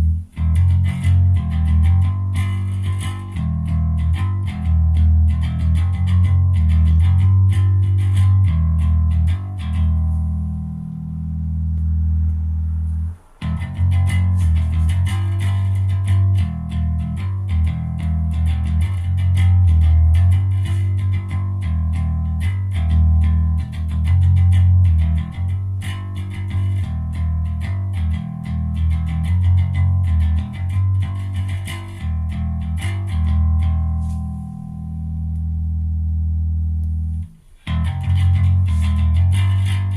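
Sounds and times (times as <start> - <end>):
electric bass guitar plucked notes: 0.0 - 39.9.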